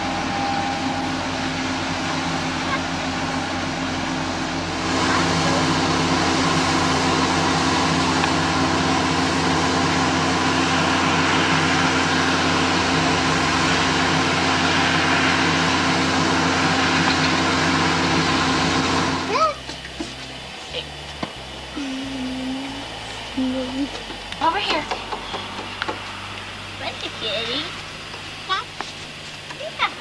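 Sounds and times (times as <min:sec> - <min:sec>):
machine humming: 0:00.0 - 0:30.0
rushing noise: 0:00.0 - 0:30.0.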